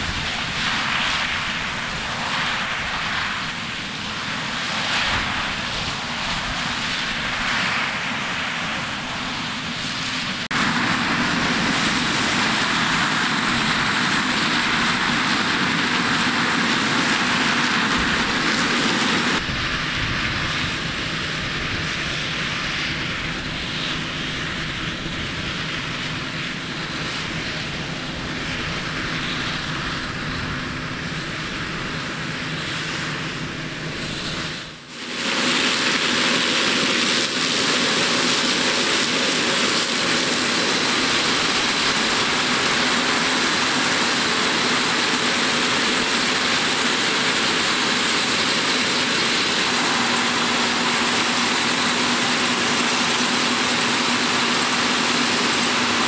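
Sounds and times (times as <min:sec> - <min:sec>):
hissy machine noise: 0:00.0 - 0:56.0
machinery engine drone: 0:00.0 - 0:56.0.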